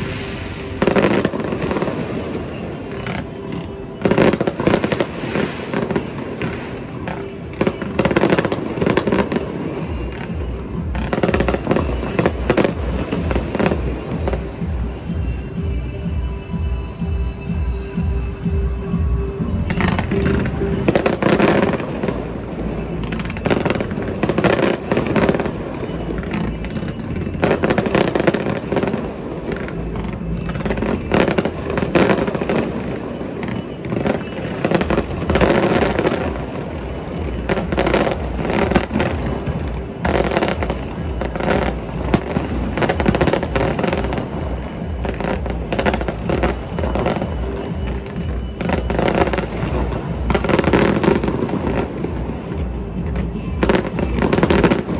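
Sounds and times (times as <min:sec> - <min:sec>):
fireworks bangs and crackles: 0:00.0 - 0:54.9
music playing: 0:00.0 - 0:54.9.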